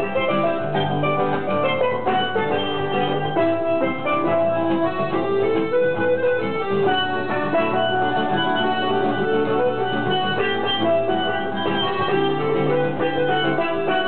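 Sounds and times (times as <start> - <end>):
acoustic guitar: 0.0 - 14.0
button accordion: 0.0 - 14.0
melody instrument: 0.0 - 14.0.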